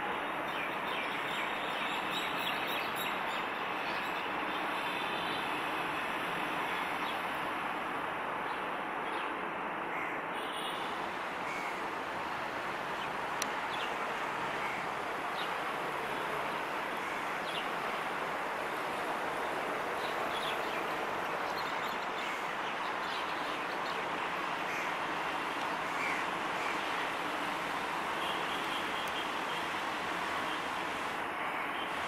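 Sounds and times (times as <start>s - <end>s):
outdoor noise: 0.0s - 32.0s.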